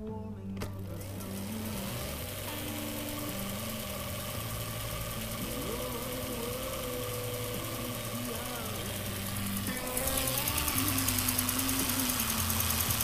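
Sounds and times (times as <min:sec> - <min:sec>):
electric bike motor whining: 0:00.9 - 0:13.0.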